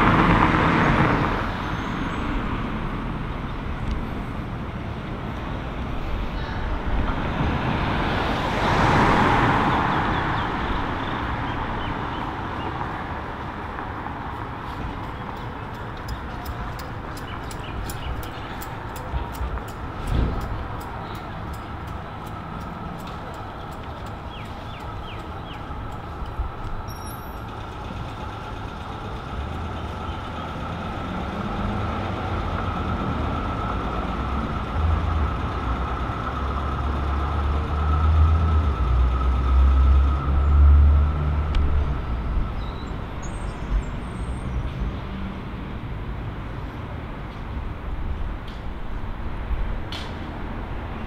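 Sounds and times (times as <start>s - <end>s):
heavy vehicle rumble: 0.0s - 51.0s
traffic hum: 0.0s - 51.0s.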